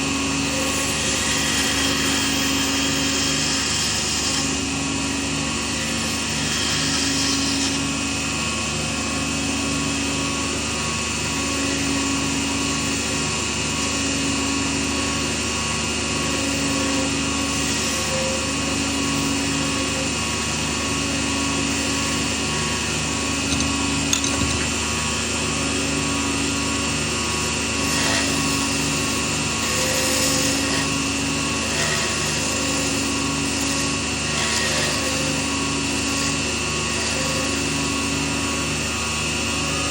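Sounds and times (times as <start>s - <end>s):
lathe motor humming: 0.0s - 39.9s.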